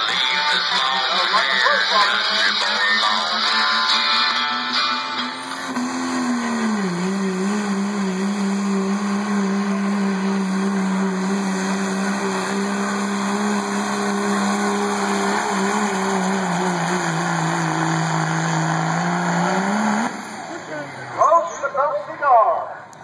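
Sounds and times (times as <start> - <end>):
diesel truck engine at full throttle: 0.0 - 23.0.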